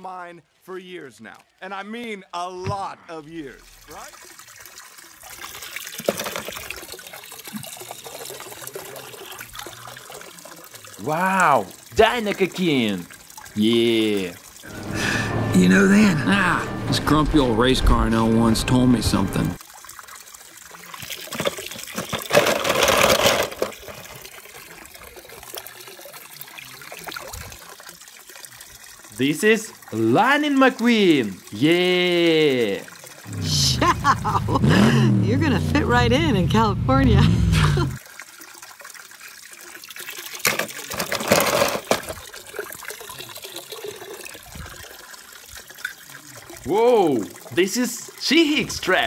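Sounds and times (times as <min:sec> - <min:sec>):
water trickling: 0:03.1 - 0:16.2, 0:16.8 - 0:49.0
water splashing and sloshing: 0:03.4 - 0:13.7, 0:14.3 - 0:30.9, 0:32.8 - 0:49.0.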